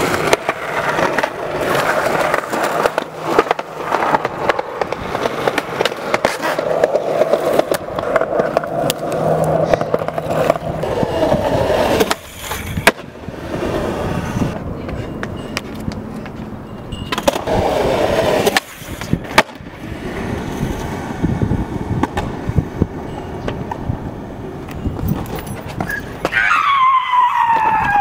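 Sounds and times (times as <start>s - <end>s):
skateboard clacking: 0.0s - 26.4s
skateboard wheels rolling on concrete: 0.0s - 28.0s.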